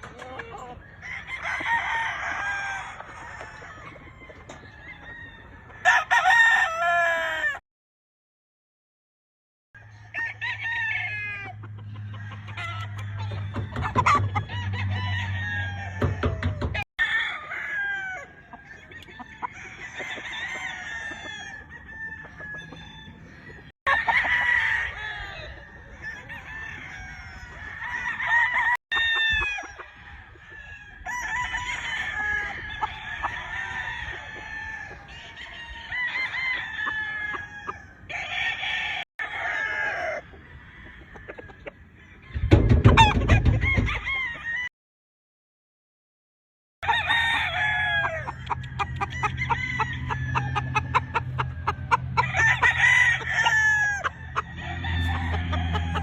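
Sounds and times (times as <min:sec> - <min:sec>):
chickens clucking: 0:00.0 - 0:06.0, 0:11.0 - 0:38.2, 0:39.8 - 0:44.0, 0:46.8 - 0:56.0
roosters crowing: 0:00.0 - 0:07.6, 0:09.8 - 0:44.7, 0:46.8 - 0:56.0.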